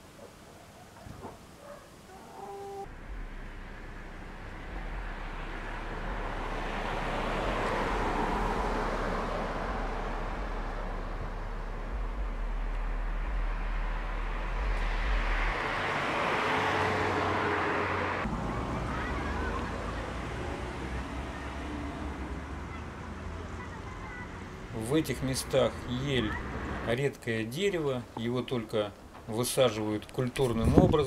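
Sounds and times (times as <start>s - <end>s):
cars passing on road: 1.0s - 31.0s.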